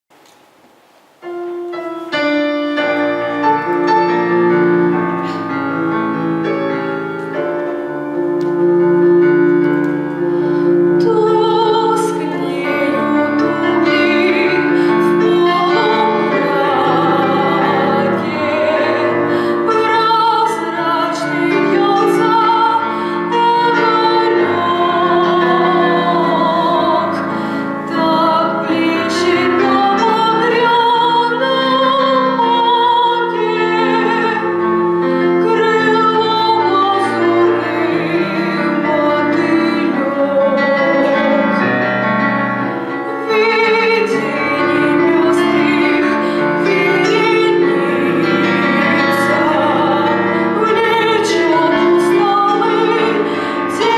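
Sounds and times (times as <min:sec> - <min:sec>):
piano accompaniment: 0:00.2 - 0:53.9
woman singing classical style: 0:01.2 - 0:53.9.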